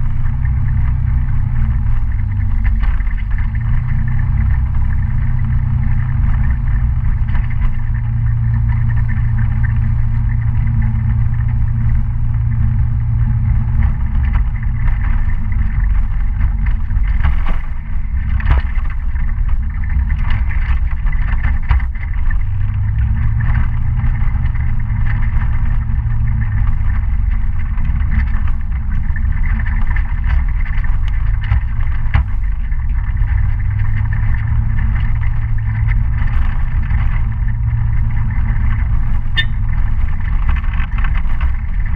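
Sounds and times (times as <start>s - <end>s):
heavy low rumble: 0.0s - 41.9s
scooter engine running: 0.0s - 41.9s.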